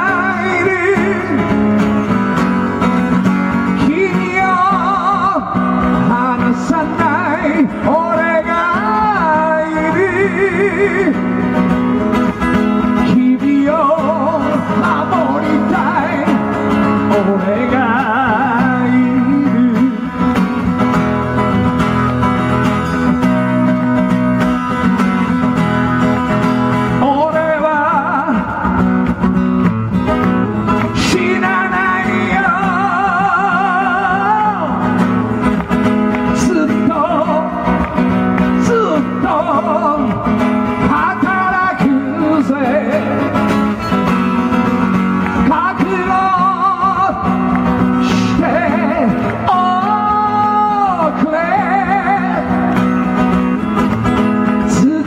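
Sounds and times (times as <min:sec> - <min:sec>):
man singing: 0:00.0 - 0:20.9, 0:26.8 - 0:29.3, 0:30.2 - 0:35.4, 0:36.1 - 0:53.4, 0:54.4 - 0:55.0
acoustic guitar: 0:00.0 - 0:55.0.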